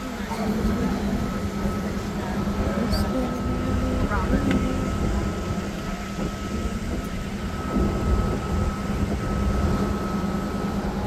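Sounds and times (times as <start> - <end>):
low rumble: 0.0 - 11.0
mechanical hum: 0.0 - 11.0.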